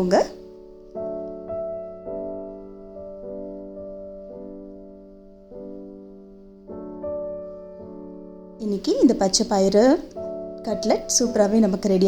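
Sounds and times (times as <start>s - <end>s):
soft piano chords: 0.0s - 12.0s.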